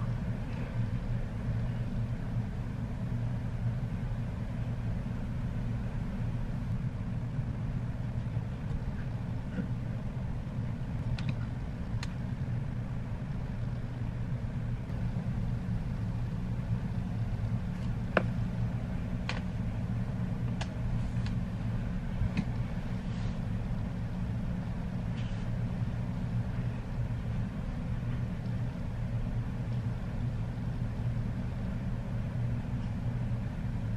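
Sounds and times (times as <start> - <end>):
low motor hum: 0.0 - 33.9.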